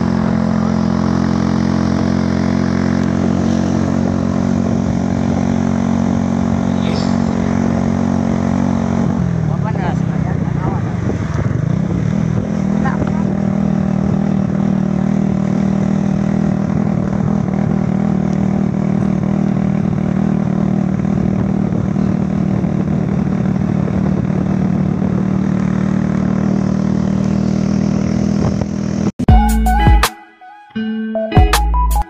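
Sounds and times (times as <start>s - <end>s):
vehicle engine humming: 0.0s - 30.1s.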